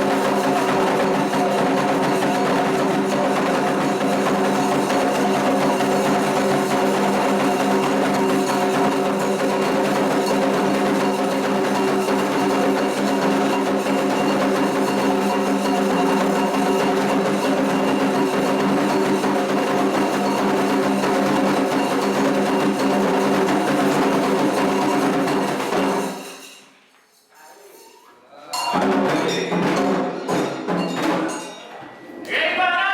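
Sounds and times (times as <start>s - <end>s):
clacking percussion beat: 0.0s - 26.7s, 28.5s - 31.7s
drums: 0.0s - 26.8s, 28.6s - 31.6s.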